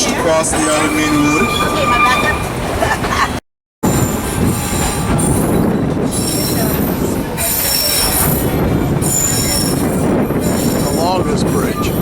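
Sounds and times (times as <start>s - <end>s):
steel wheels squealing on rails: 0.0s - 12.0s
train rumble: 0.0s - 12.0s.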